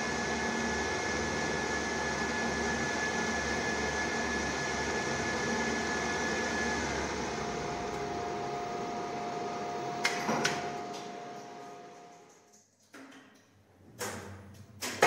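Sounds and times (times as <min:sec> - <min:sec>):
lift machine running with whine: 0:00.0 - 0:12.3.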